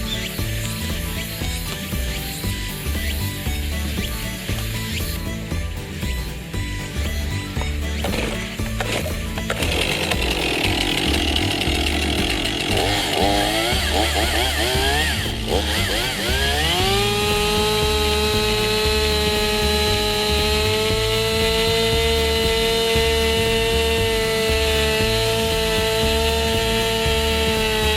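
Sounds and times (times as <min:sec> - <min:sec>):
chainsaw engine revving: 0:00.0 - 0:27.9.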